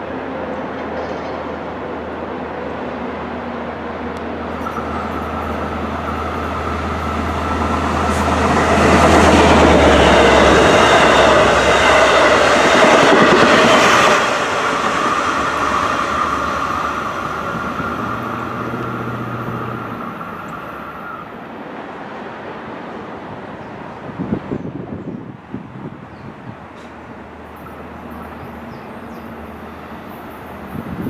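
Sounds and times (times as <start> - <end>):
train passing close by: 0.0 - 31.0.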